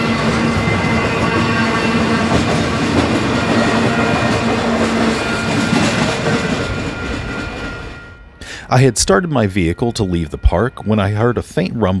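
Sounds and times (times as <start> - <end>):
steady ringing tone: 0.0 - 12.0
train wheels clacking: 0.0 - 12.0.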